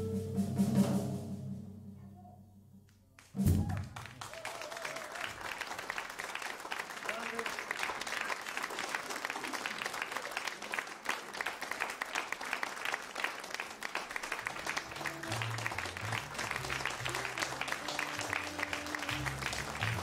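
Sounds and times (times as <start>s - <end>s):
audience applauding: 3.2s - 20.0s.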